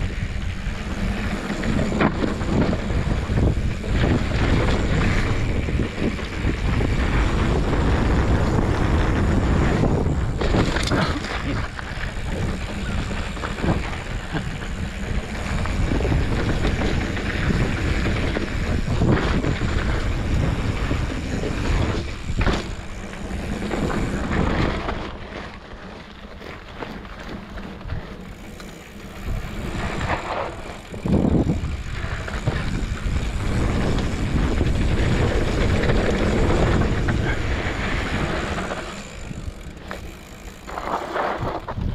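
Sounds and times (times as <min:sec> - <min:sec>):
wind buffeting microphone: 0:00.0 - 0:25.3, 0:27.6 - 0:41.9
bike knocking and rattling: 0:00.0 - 0:41.9
knobby tyres rumbling on dirt: 0:00.0 - 0:41.9.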